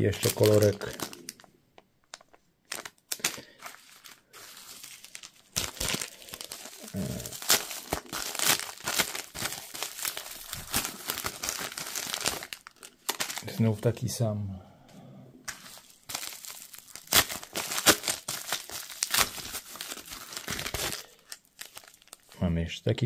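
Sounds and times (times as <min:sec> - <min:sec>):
plastic packaging crinkling: 0:00.0 - 0:13.9, 0:15.5 - 0:22.3
plastic tearing: 0:00.1 - 0:13.6, 0:15.5 - 0:22.3.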